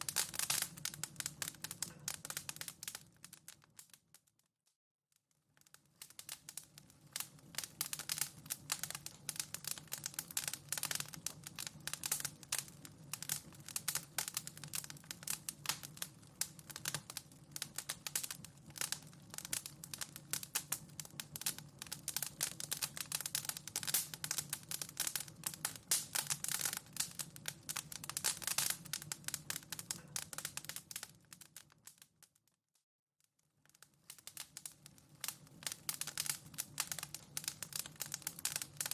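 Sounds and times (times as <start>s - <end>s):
wood fire crackling: 0.0s - 4.1s, 5.5s - 32.3s, 33.6s - 38.9s.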